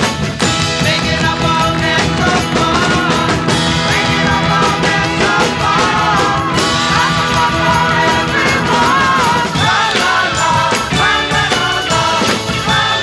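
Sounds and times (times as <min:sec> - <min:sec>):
rock music with wavering lead melody: 0:00.0 - 0:13.0.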